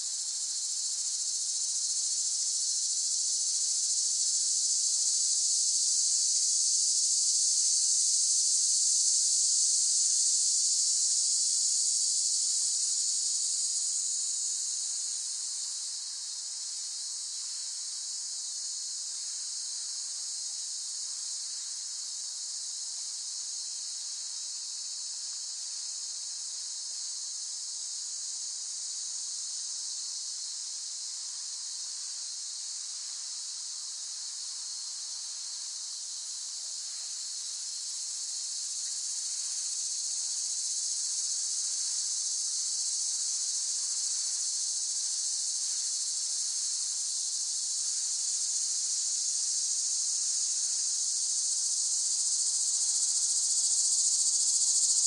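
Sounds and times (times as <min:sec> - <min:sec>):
cicadas buzzing in chorus: 0:00.0 - 0:55.0.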